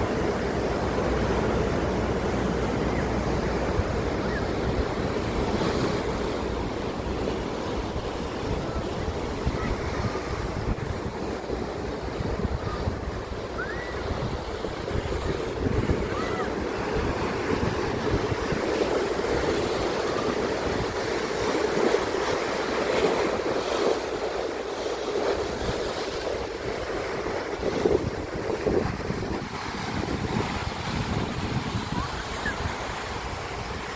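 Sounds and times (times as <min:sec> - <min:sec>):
wind buffeting microphone: 0:00.0 - 0:23.8, 0:25.1 - 0:33.9
ocean surf breaking: 0:00.0 - 0:33.9.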